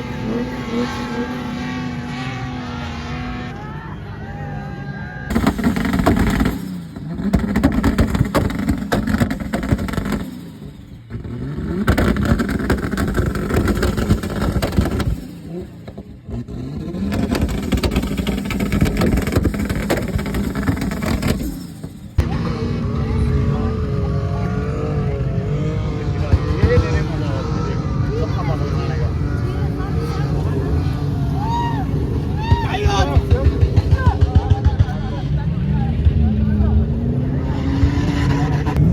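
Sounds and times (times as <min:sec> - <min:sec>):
off-road engines revving: 0:00.0 - 0:38.9.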